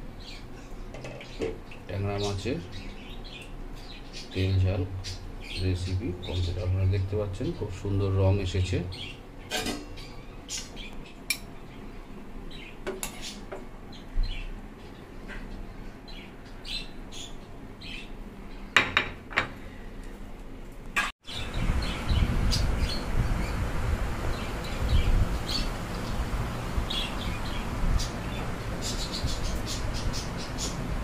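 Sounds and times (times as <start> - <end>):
small birds chirping: 0.0 - 7.7, 8.3 - 18.8, 21.2 - 31.0.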